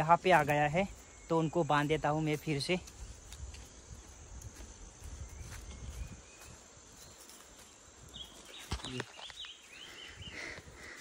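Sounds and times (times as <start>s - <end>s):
bird chirping: 0.0s - 11.0s
footsteps through grass: 0.0s - 11.0s
high insect drone: 0.0s - 11.0s.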